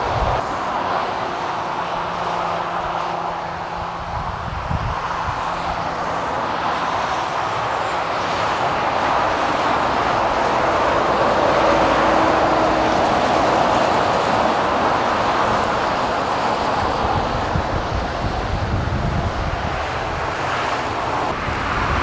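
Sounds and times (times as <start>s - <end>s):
heavy motorway traffic: 0.0s - 22.0s.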